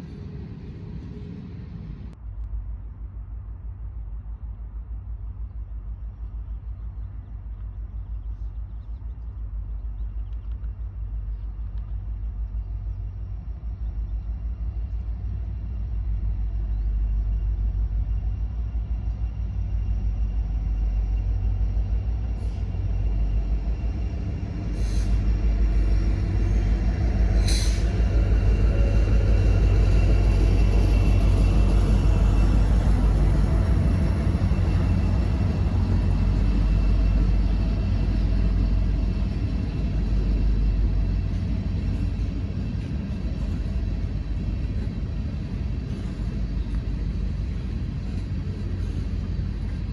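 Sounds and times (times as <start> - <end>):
diesel locomotive rumble: 0.0 - 49.9.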